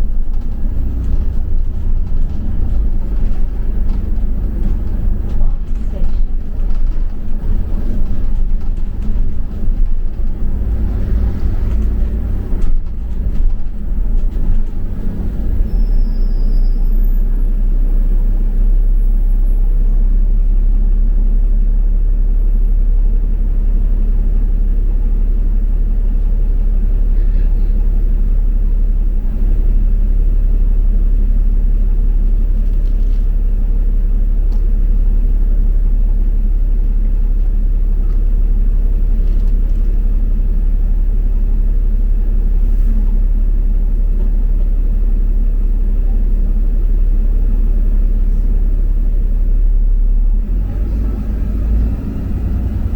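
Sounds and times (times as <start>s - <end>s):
bus rumbling in motion: 0.0s - 52.9s.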